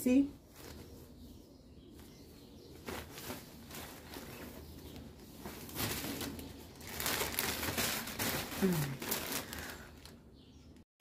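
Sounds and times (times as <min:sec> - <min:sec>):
fabric rustling: 0:00.4 - 0:01.3, 0:02.0 - 0:10.2.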